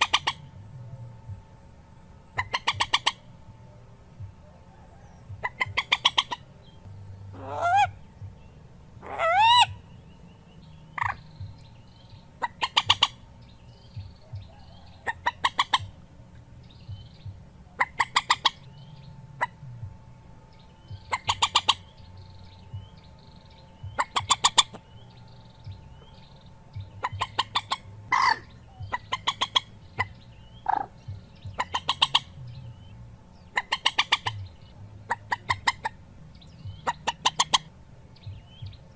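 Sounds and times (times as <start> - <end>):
rail bird rising calls: 0.0 - 0.6, 2.3 - 3.4, 4.4 - 8.3, 9.0 - 16.0, 16.8 - 19.7, 20.5 - 38.9.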